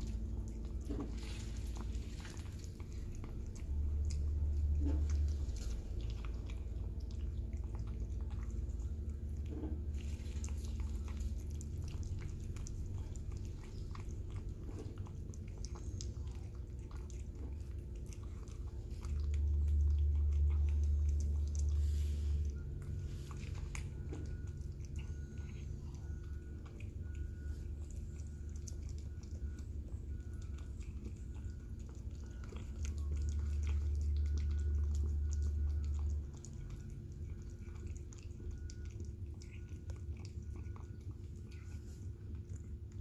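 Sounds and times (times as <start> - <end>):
cat chewing and licking food: 0.0 - 43.0
steady low hum: 0.0 - 43.0.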